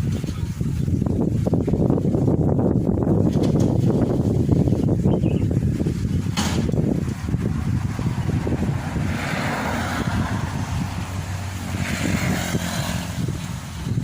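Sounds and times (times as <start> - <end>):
combine harvester engine rumbling: 0.0 - 14.0.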